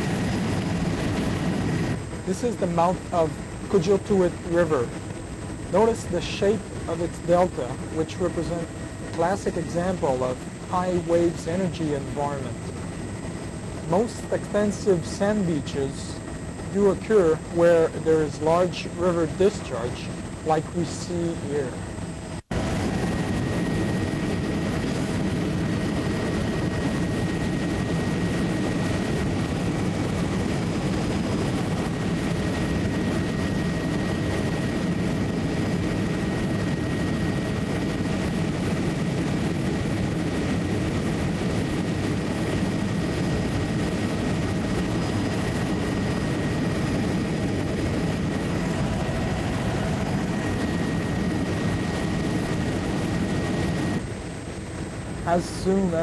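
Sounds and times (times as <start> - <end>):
thin high whine: 0.0 - 40.7, 41.4 - 56.0
aircraft engine drone in cabin: 0.0 - 56.0.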